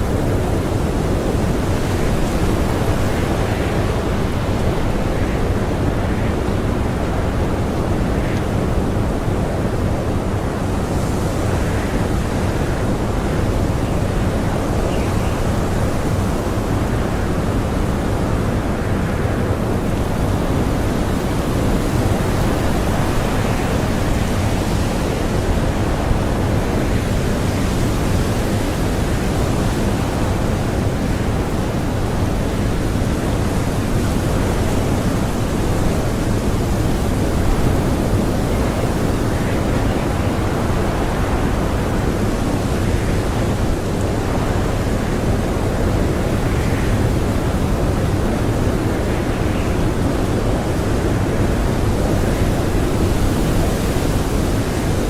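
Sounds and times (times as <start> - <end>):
strong blizzard wind: 0.0 - 55.0.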